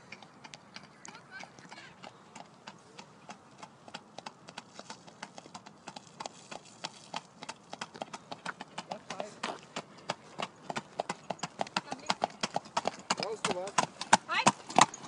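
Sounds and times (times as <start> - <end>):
hoofbeats on hard track: 0.0 - 15.0.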